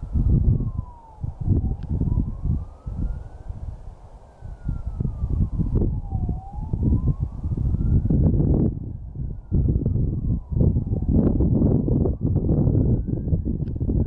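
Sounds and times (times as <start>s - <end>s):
distant siren wailing: 0.0s - 14.0s
wind rumble on microphone: 0.0s - 14.0s.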